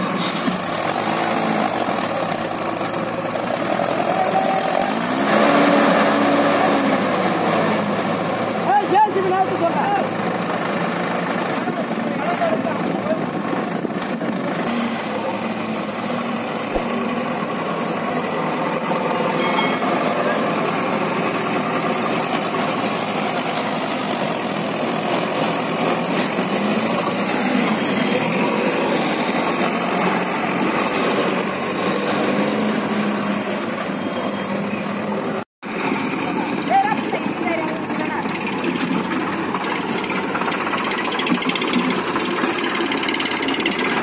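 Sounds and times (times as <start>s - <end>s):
backhoe loader engine running: 0.0s - 44.0s
tractor diesel engine: 0.0s - 44.0s.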